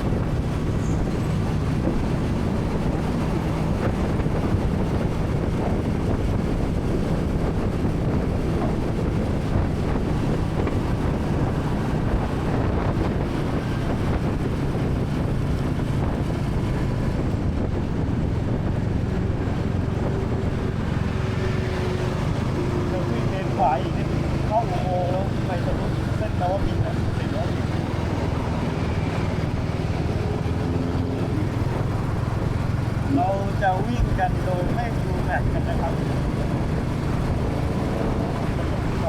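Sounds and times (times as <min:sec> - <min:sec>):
wind noise on microphone: 0:00.0 - 0:39.0.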